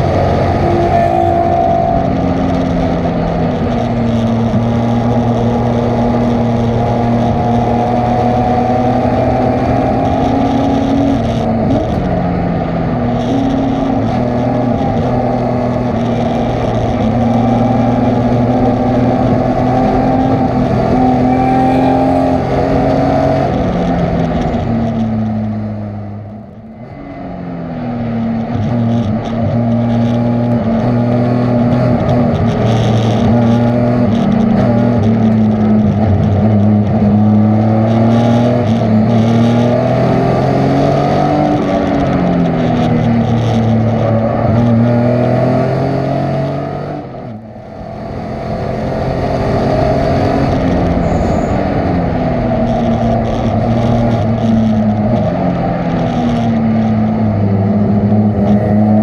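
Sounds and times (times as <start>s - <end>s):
race car engine with gear changes: 0.0s - 59.0s.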